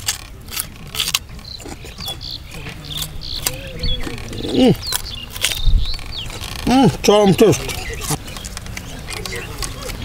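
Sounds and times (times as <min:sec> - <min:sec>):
crunching raw carrot: 0:00.0 - 0:10.0.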